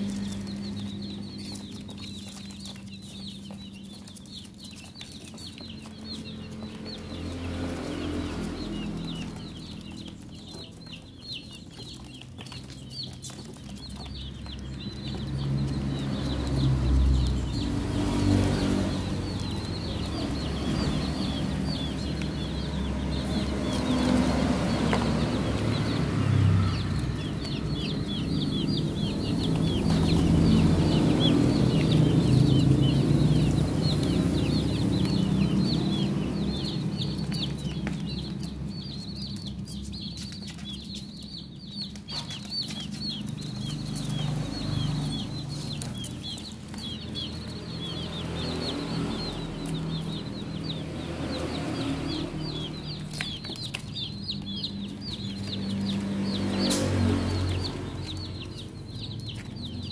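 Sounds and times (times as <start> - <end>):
baby chicks peeping: 0.0 - 59.9.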